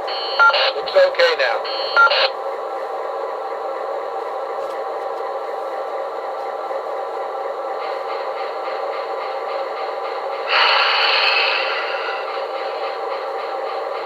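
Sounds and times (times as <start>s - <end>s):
diesel locomotive engine sound effect: 0.0s - 14.0s.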